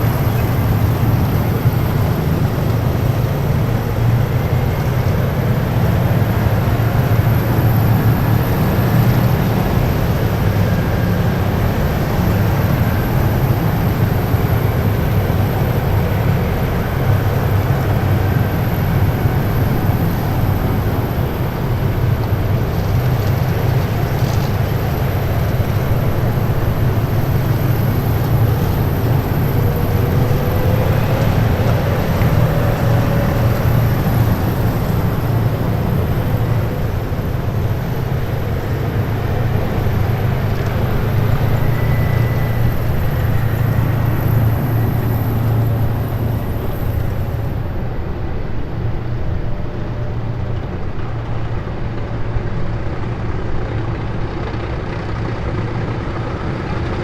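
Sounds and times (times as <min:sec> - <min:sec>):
heavy vehicles driving past: 0:00.0 - 0:57.0.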